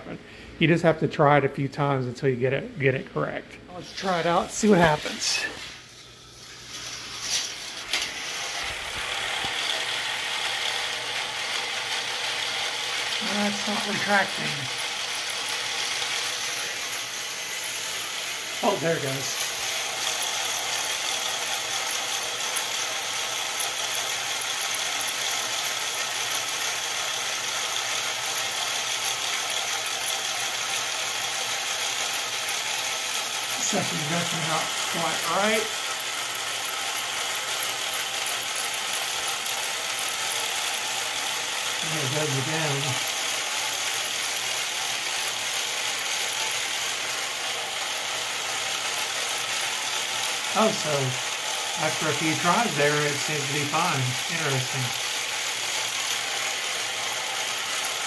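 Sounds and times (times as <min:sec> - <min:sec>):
toy car motor whirring rattle: 0:03.8 - 0:58.0.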